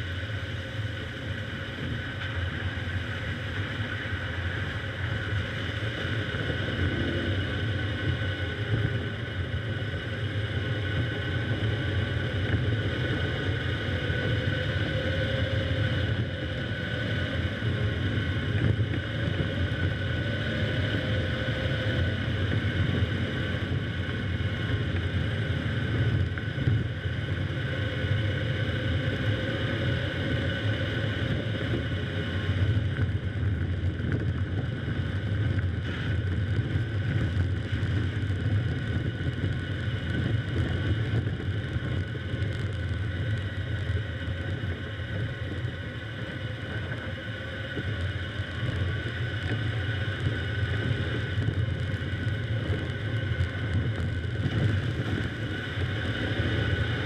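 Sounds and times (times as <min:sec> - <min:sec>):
car engine and tyres rumbling: 0:00.0 - 0:57.0
faint constant whine: 0:00.0 - 0:57.0.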